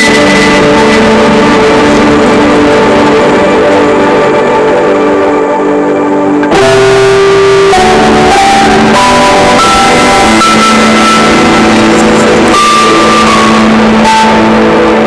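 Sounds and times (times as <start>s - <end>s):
guitar and drums music: 0.0s - 4.2s, 6.4s - 15.0s.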